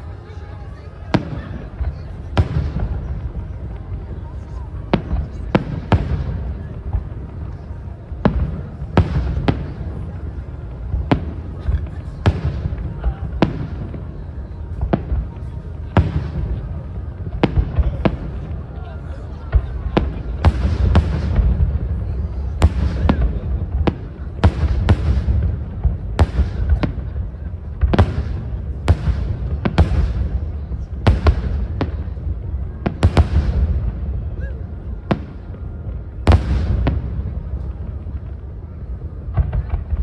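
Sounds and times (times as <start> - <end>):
fireworks bursting: 1.1 - 40.0.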